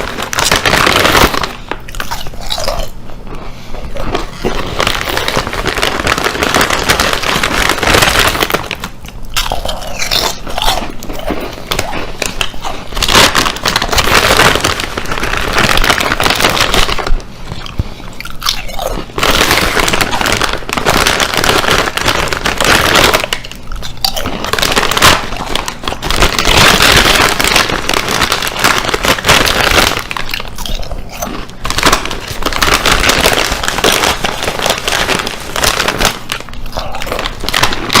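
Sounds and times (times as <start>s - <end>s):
potato chips crunched and chewed: 0.0s - 38.0s.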